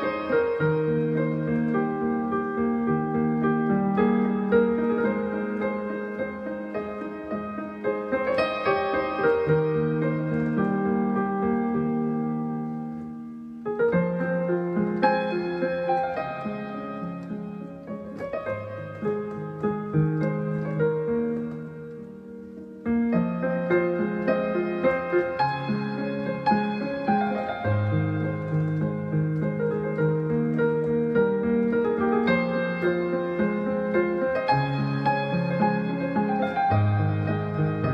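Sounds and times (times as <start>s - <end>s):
slow gentle piano melody: 0.0s - 37.9s.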